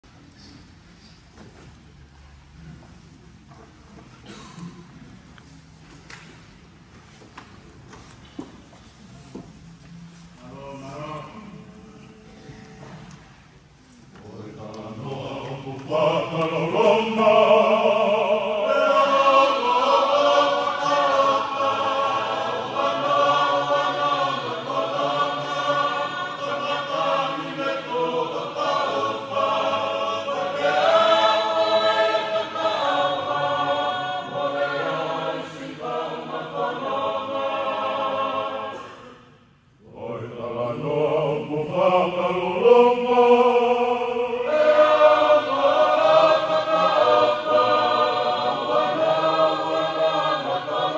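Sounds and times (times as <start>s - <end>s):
choir singing sustained notes: 10.0s - 50.9s.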